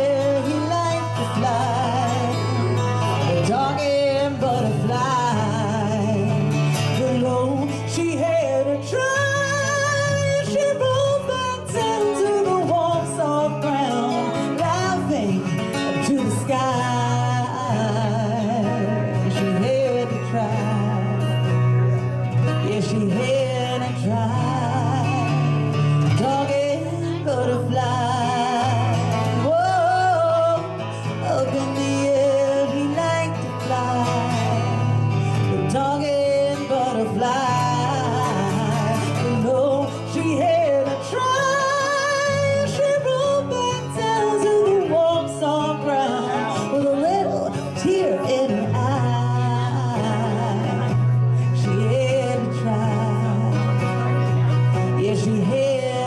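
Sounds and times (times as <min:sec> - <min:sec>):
acoustic guitar playing: 0:00.0 - 0:56.0
woman singing wordless melody: 0:00.0 - 0:56.0.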